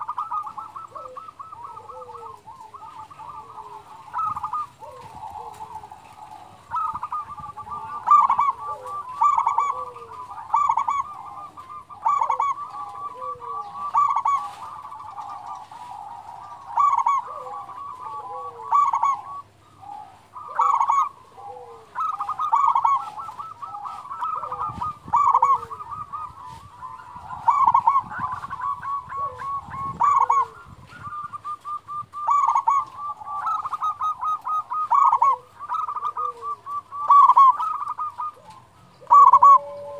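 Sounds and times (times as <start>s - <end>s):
dove cooing: 0.0s - 39.9s
faint bird calls: 0.0s - 39.9s.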